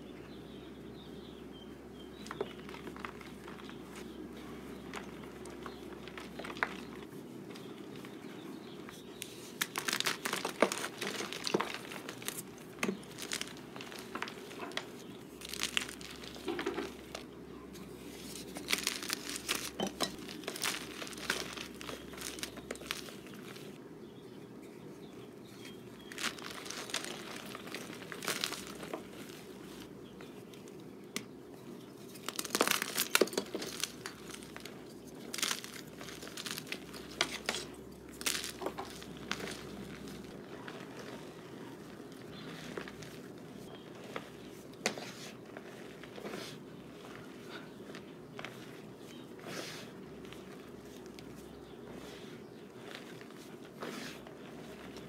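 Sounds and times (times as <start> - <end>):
chalk crunching and crumbling: 2.2 - 23.8, 24.8 - 55.0.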